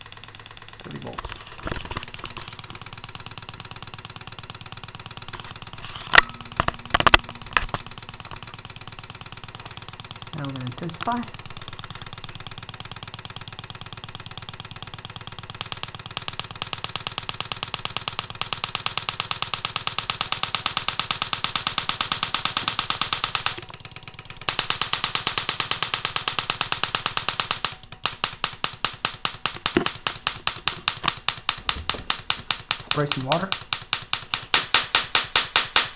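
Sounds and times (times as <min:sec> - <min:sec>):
electric sparks snapping: 0:00.0 - 0:35.9.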